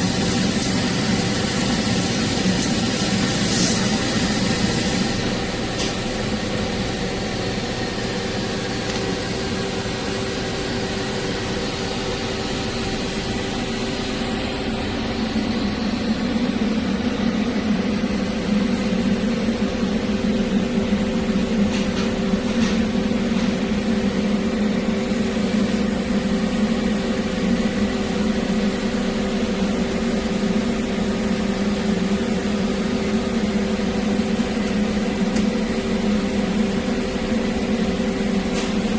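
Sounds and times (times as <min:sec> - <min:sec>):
shop ventilation running: 0:00.0 - 0:38.9
welding hum and hiss: 0:00.0 - 0:38.9.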